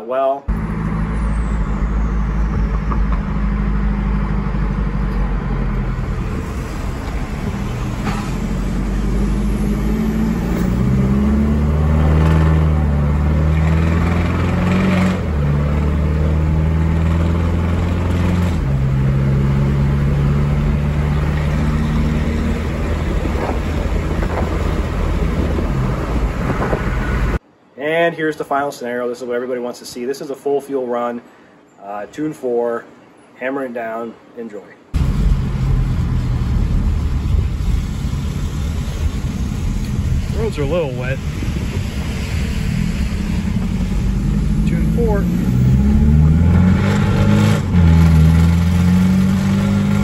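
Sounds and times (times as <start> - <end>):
diesel engine accelerating: 0.5 - 27.4, 35.0 - 50.0
steady road noise: 0.5 - 27.5, 34.9 - 50.0.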